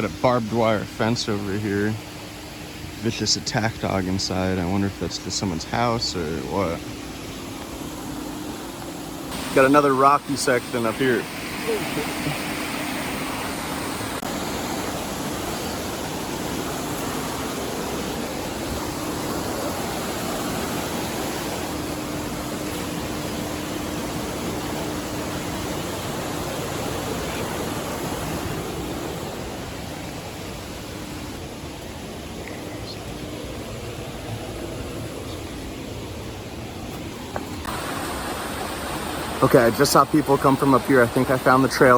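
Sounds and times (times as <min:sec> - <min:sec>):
river water rushing over boulders: 0:05.7 - 0:41.9.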